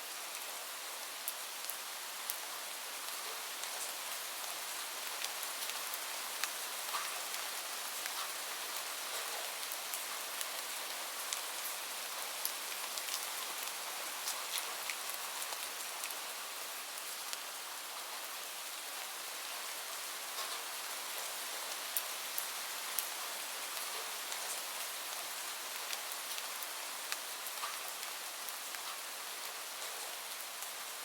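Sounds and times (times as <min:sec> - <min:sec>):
steady rain hissing: 0:00.0 - 0:31.0.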